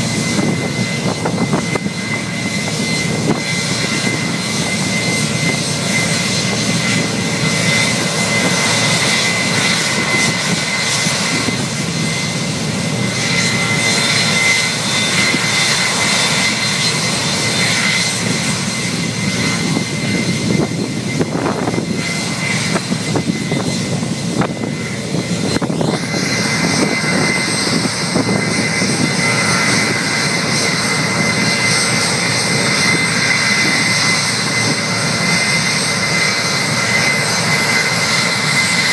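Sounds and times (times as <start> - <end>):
jet engines roaring: 0.0 - 38.9
rising jet engine whine: 0.0 - 38.9.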